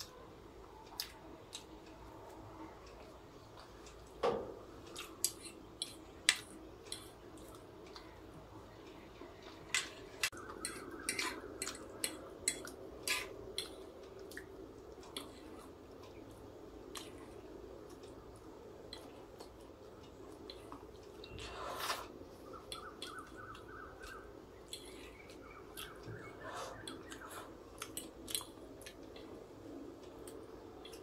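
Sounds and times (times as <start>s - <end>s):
faint hum: 0.0s - 31.0s.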